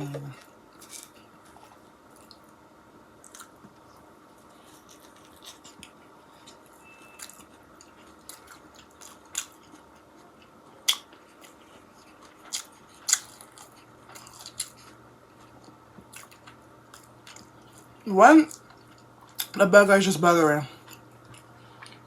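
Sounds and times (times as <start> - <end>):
chewing with wet mouth clicks: 0.4 - 2.6, 3.2 - 4.0, 4.6 - 19.6, 20.8 - 22.0.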